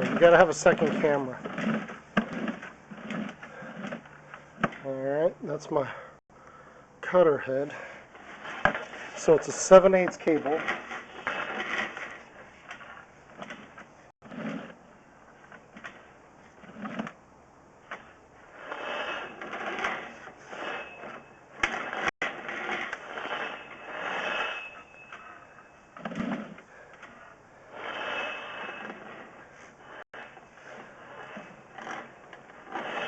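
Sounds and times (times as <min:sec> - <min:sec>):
drain cable scraping and rattling: 0:00.0 - 0:05.0, 0:07.1 - 0:17.2, 0:17.9 - 0:33.0.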